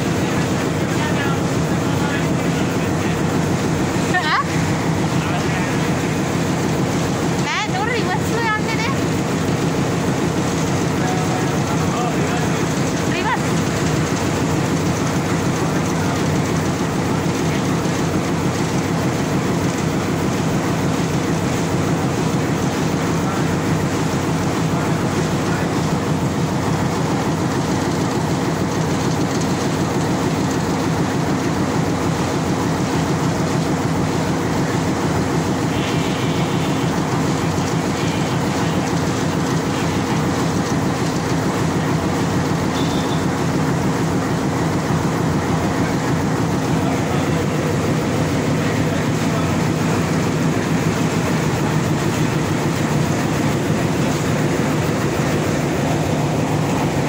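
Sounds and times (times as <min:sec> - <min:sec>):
locomotive engine humming: 0:00.0 - 0:57.0.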